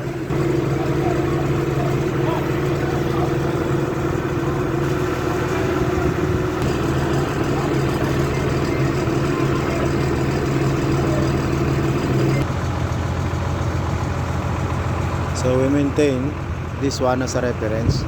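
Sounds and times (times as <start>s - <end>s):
crane diesel engine running: 0.0s - 18.0s.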